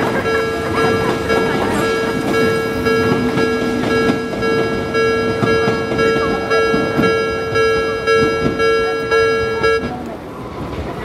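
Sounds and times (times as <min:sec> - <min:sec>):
level crossing warning bell: 0:00.0 - 0:10.1
train running: 0:00.0 - 0:11.0.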